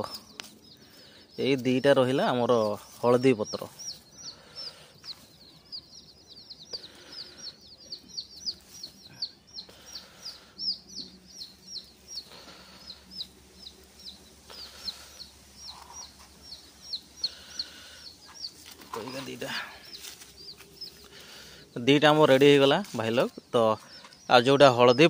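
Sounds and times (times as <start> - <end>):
bird peeping: 0.0 - 25.0.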